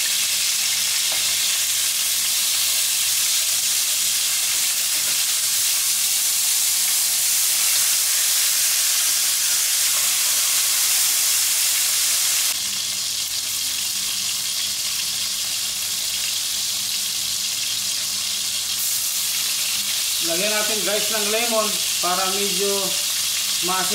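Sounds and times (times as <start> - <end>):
fish frying in hot oil: 0.0 - 23.9.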